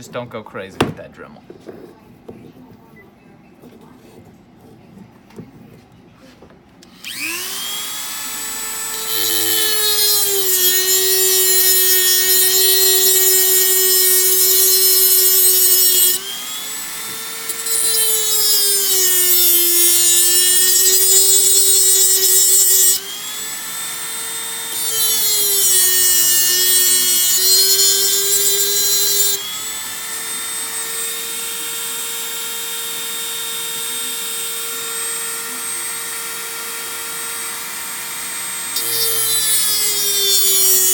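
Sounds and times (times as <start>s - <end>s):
rotary tool grinding: 6.9s - 40.9s.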